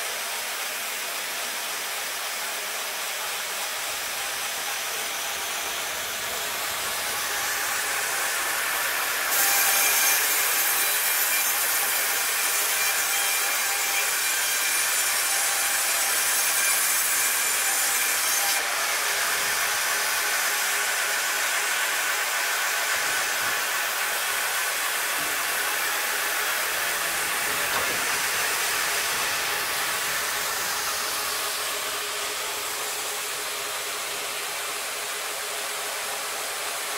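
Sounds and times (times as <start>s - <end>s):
band saw cutting timber: 0.0s - 36.9s.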